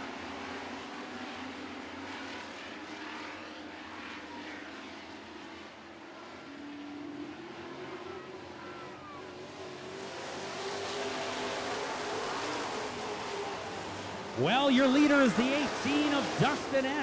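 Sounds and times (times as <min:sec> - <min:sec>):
racing truck engines droning: 0:00.0 - 0:17.0.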